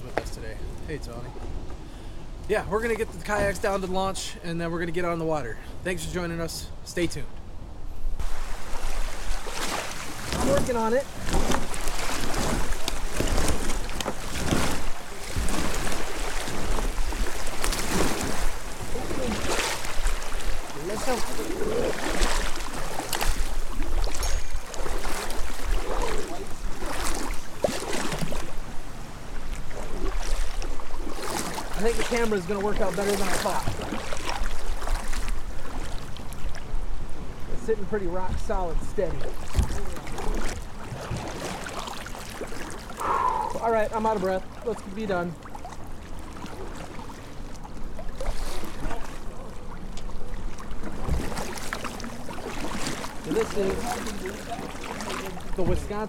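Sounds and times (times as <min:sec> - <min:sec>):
kayak paddle splashing in water: 0:08.2 - 0:36.7, 0:39.0 - 0:56.0.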